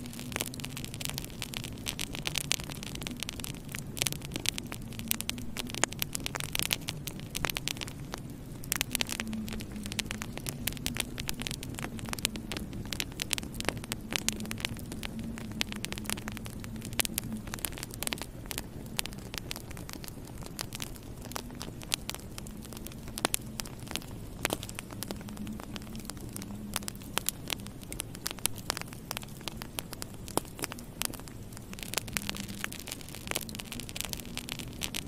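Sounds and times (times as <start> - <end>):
low steady hum: 0.0 - 35.0
wood fire crackling and popping: 0.0 - 35.0.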